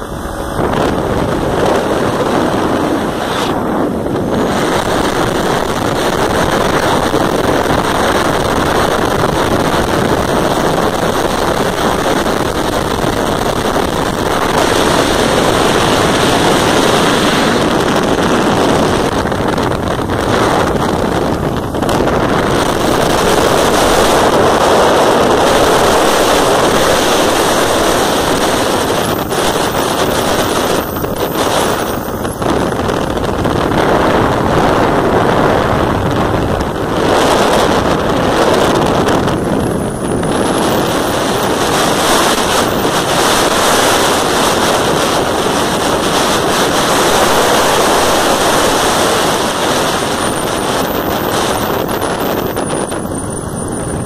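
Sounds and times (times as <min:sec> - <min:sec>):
motorcycle running: 0:00.0 - 0:54.0
wind rushing over microphone: 0:00.0 - 0:54.0.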